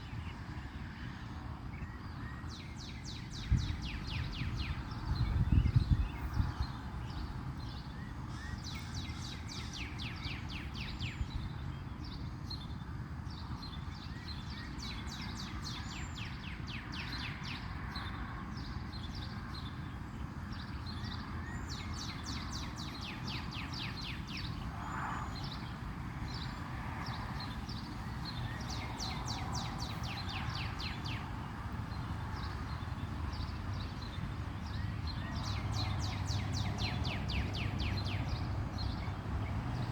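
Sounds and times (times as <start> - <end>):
small birds chirping: 1.9 - 39.9.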